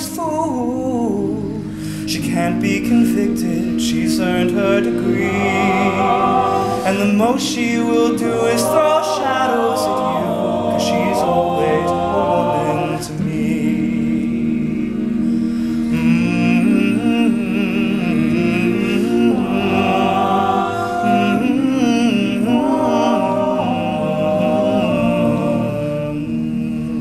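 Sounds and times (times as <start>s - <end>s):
male a cappella group singing: 0.0s - 27.0s.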